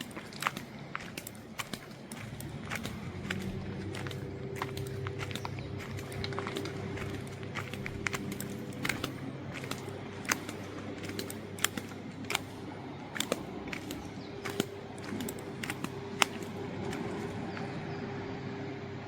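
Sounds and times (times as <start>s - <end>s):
footsteps on pebbles: 0.0s - 17.9s
faint low hum: 0.0s - 19.0s.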